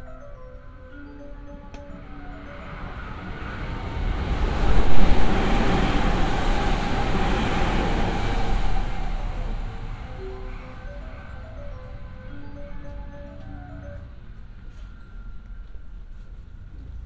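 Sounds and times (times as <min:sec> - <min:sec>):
electric train rushing rumble: 0:00.0 - 0:16.1.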